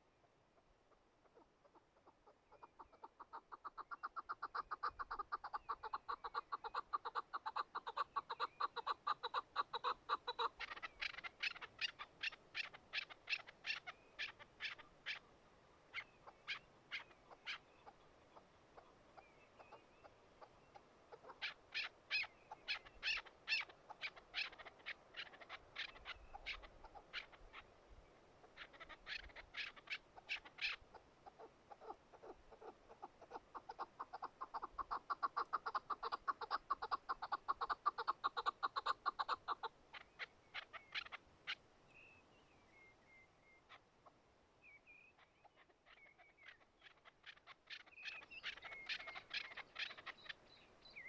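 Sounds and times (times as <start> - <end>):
partridge chuck calls: 0.6 - 15.3, 15.9 - 27.8, 28.4 - 41.7, 43.4 - 51.0.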